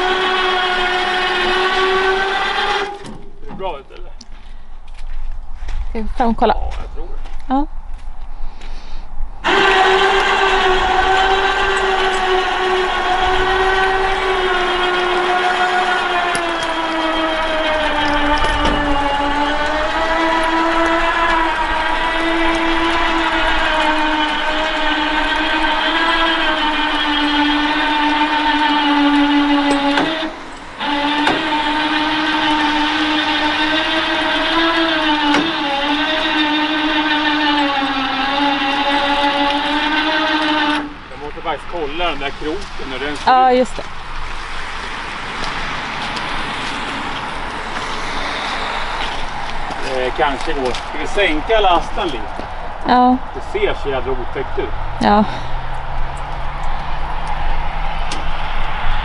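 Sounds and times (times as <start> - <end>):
electric winch motor whining: 0.0 - 5.8, 9.4 - 59.0.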